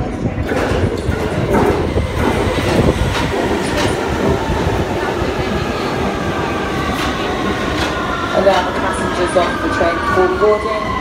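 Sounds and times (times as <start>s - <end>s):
train rumbling into platform: 0.0s - 11.0s.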